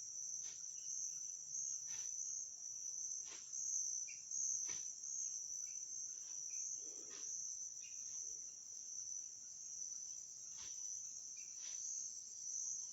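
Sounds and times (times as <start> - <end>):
insects chirring: 0.0 - 12.9.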